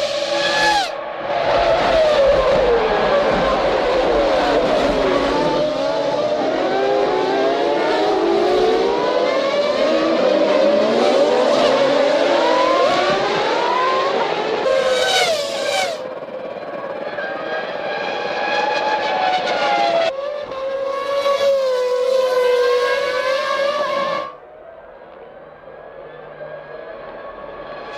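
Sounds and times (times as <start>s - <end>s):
racing car engines: 0.0s - 27.9s.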